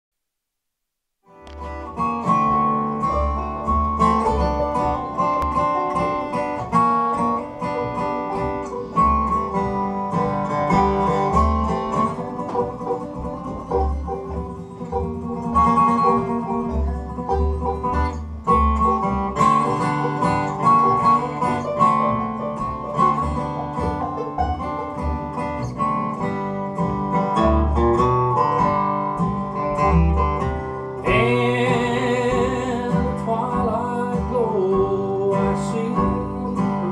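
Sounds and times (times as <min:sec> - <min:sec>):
bluegrass band instrumental: 0:01.3 - 0:36.9.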